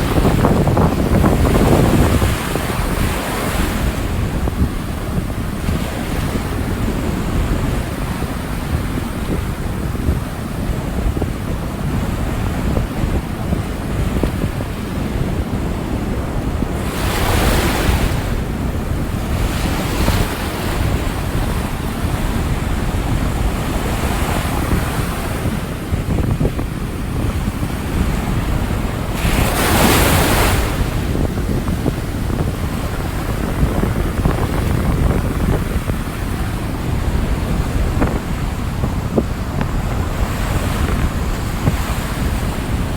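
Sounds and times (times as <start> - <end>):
ocean waves breaking: 0.0 - 42.9
wind buffeting microphone: 0.0 - 42.9.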